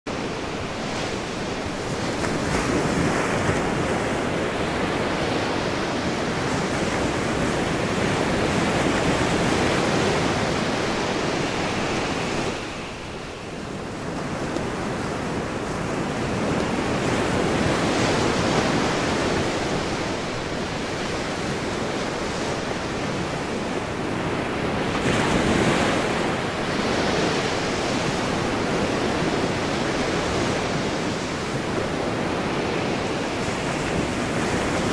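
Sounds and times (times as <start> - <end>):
wind: 0.0 - 34.9
ocean waves breaking: 0.1 - 34.9.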